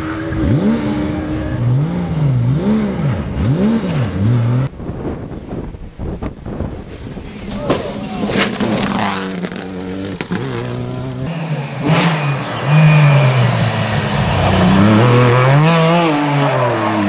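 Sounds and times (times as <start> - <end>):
rally car engine revving: 0.0 - 4.7, 8.0 - 17.0.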